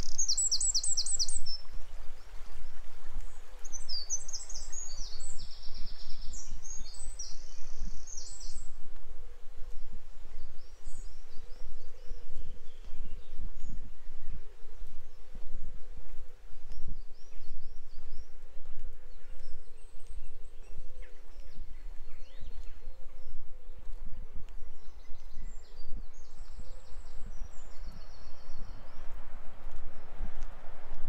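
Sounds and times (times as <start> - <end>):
small birds chirping: 0.0 - 1.8, 2.8 - 8.8, 9.7 - 30.1.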